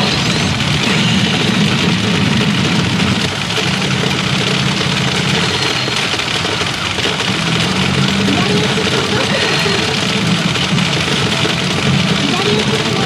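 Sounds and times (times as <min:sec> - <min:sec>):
pachinko machine sound effects: 0:00.0 - 0:13.0
pachinko parlour din: 0:00.0 - 0:13.0.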